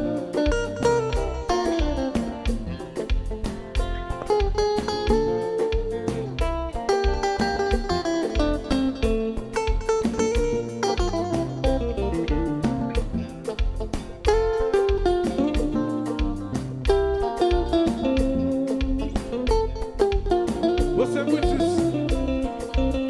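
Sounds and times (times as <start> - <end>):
bass and drum groove: 0.0 - 23.0
electric guitar melody: 0.0 - 23.0.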